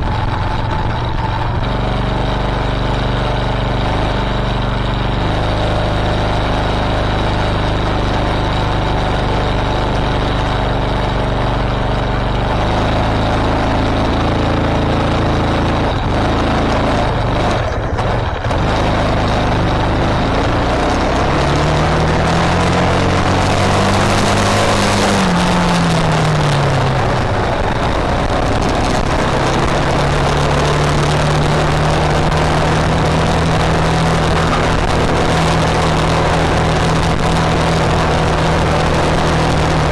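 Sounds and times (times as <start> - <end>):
engine running and revving: 0.0 - 39.9.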